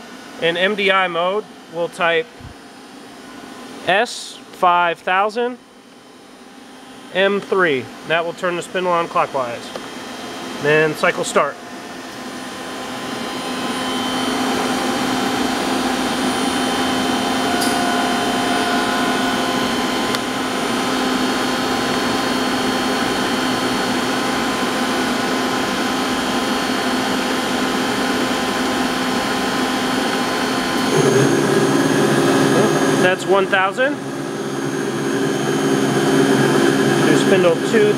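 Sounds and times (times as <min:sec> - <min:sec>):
machine spindle whine and hum: 0:00.0 - 0:37.9.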